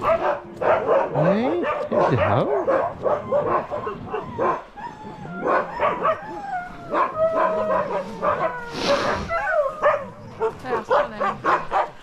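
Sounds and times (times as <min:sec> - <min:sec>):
dogs whining: 0:00.0 - 0:12.0
huskies barking and yipping: 0:00.0 - 0:12.0.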